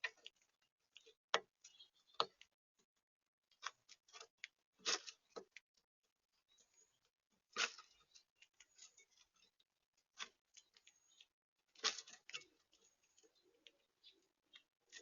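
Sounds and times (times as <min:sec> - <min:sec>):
animals pecking at bird feeder: 0:00.0 - 0:15.0.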